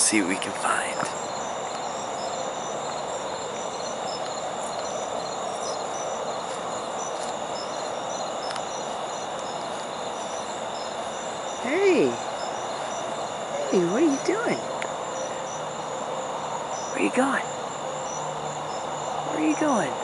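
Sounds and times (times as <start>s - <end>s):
insects chirping and trilling: 0.0s - 20.0s.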